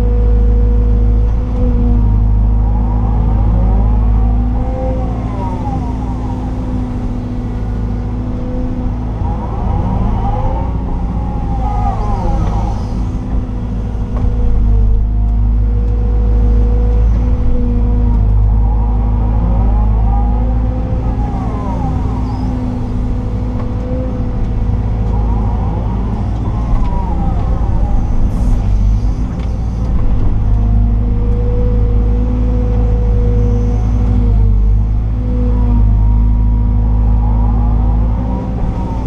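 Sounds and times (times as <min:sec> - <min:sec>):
engine whines rising and falling: 0:00.0 - 0:39.0
excavator diesel engine running: 0:00.0 - 0:39.0.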